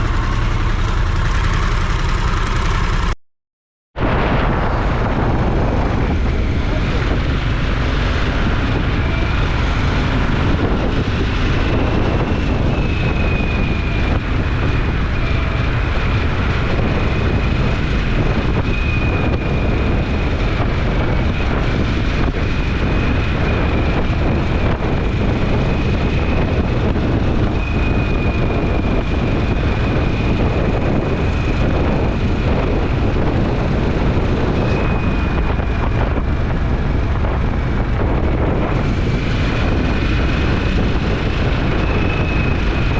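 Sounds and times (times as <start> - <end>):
motorcycle engine and road noise: 0.0 - 3.2, 3.9 - 42.9
wind buffeting microphone: 4.0 - 42.9.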